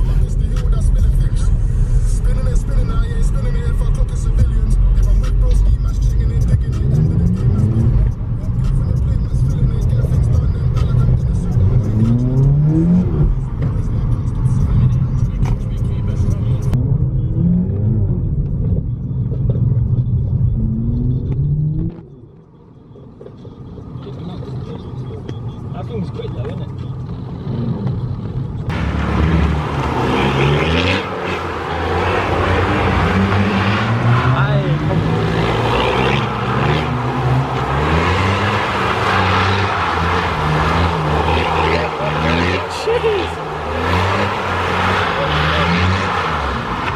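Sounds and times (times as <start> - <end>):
car engine accelerating hard: 0.0 - 22.4, 27.0 - 46.9.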